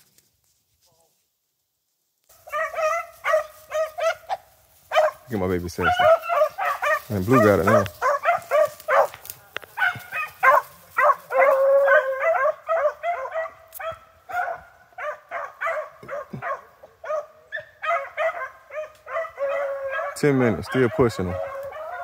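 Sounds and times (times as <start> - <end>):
dogs baying: 2.3 - 22.0.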